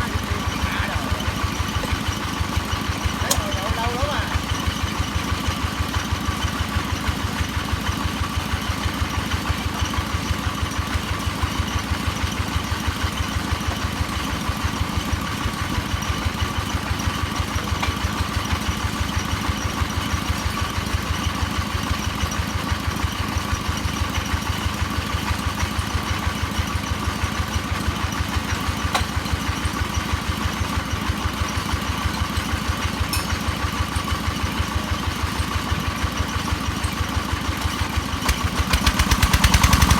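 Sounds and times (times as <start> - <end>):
drilling machine engine chugging: 0.0 - 39.9.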